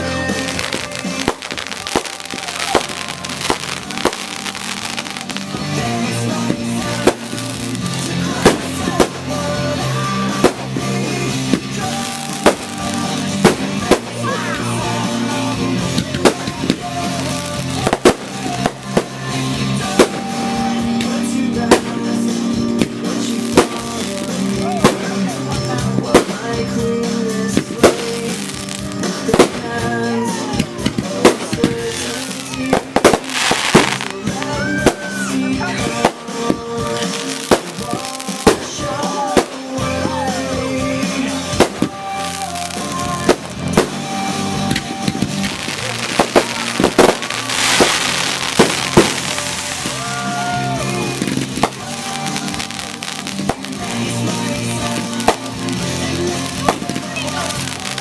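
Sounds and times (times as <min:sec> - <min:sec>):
fireworks banging: 0:00.0 - 0:58.0
music playing: 0:00.0 - 0:58.0.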